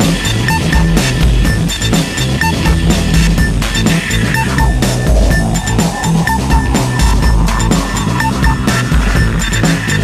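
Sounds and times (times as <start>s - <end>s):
bass line: 0.0s - 10.0s
drums: 0.0s - 10.0s.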